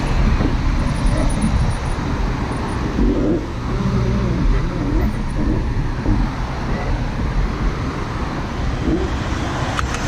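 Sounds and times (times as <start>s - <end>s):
passing motor traffic: 0.0s - 10.0s
wind rushing over microphone: 0.0s - 10.0s.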